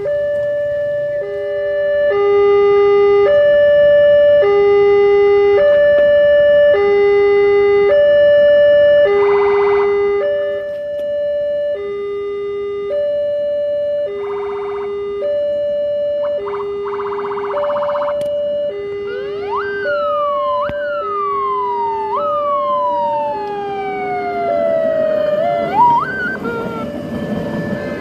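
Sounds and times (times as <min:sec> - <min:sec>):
level-crossing two-tone alarm: 0:00.0 - 0:28.0.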